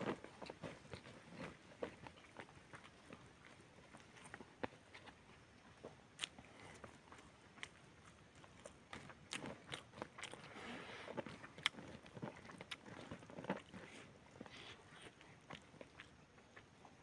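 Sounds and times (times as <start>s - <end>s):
man chewing food: 0.0s - 17.0s.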